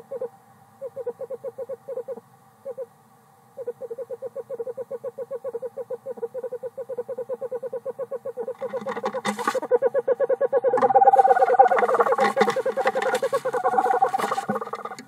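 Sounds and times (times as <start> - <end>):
owl trilling hoots: 0.0 - 3.0, 3.6 - 15.0.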